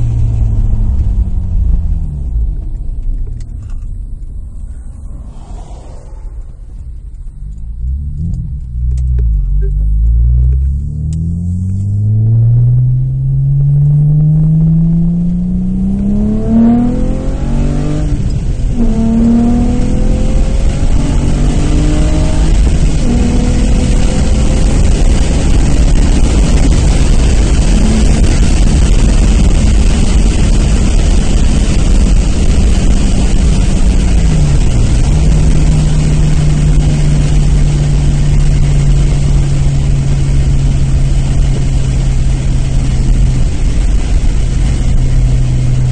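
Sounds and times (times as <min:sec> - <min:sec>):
car engine accelerating through gears: 0:00.0 - 0:45.9
road noise: 0:00.0 - 0:45.9.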